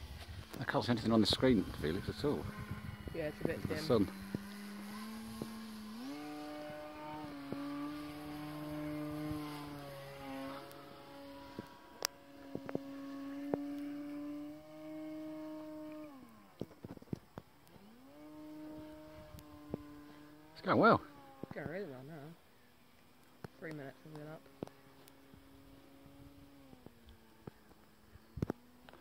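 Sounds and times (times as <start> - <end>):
model plane motor droning: 0.0 - 29.0.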